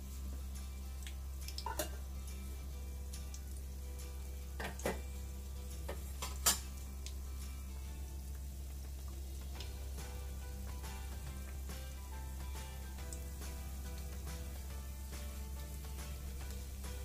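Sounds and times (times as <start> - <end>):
food frying in oil: 0.0 - 17.0.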